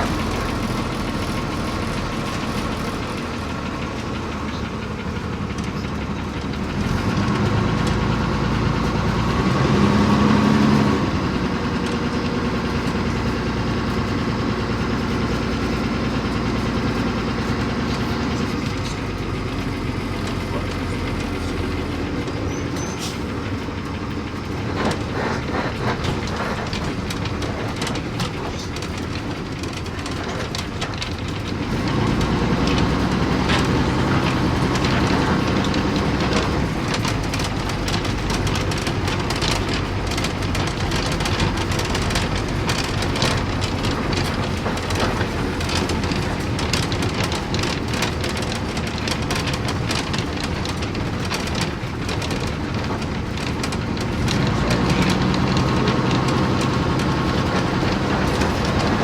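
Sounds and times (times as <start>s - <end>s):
bus engine running: 0.0s - 59.0s
rattling and clicking: 0.0s - 59.0s.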